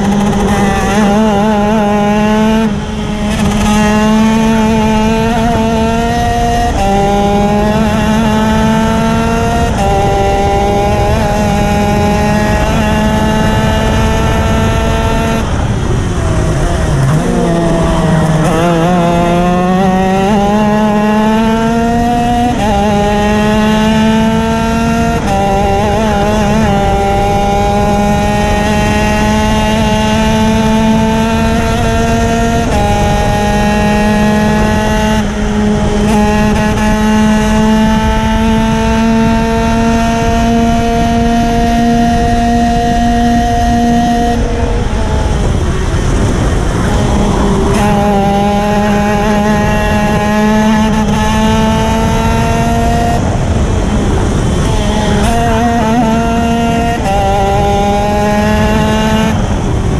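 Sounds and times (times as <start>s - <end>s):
kart engine at full throttle: 0.0s - 59.9s.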